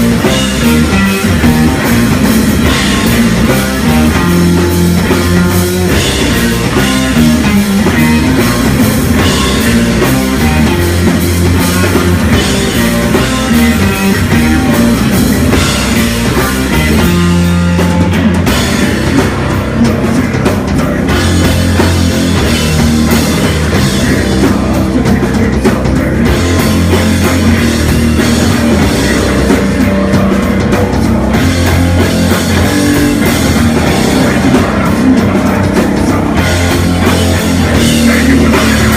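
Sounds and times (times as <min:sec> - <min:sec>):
bass guitar: 0:00.0 - 0:38.9
distorted electric guitar: 0:00.0 - 0:38.9
drum kit: 0:00.0 - 0:38.9.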